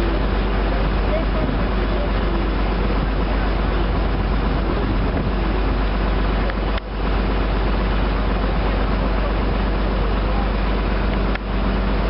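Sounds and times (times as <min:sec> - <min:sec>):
boat engine droning: 0:00.0 - 0:12.0
water wash: 0:00.0 - 0:12.0
wind noise: 0:00.0 - 0:12.0.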